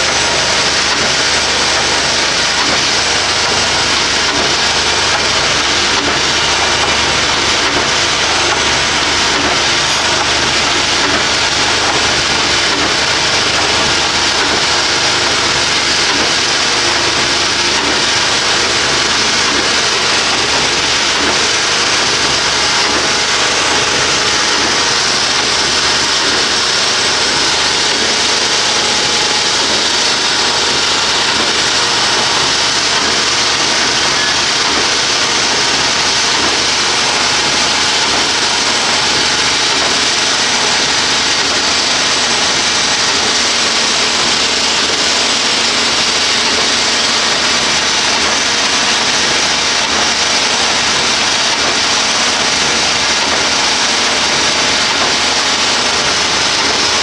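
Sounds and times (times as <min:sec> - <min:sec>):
concrete mixer running: 0:00.0 - 0:57.0.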